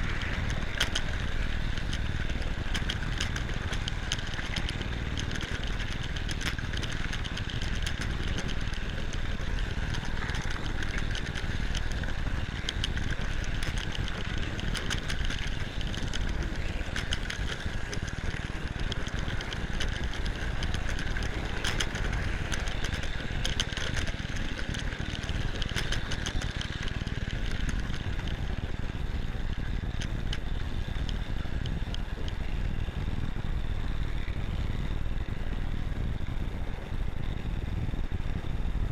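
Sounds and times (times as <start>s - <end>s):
model train motor whine: 0.0s - 38.9s
model train wheel rumble: 0.0s - 38.9s.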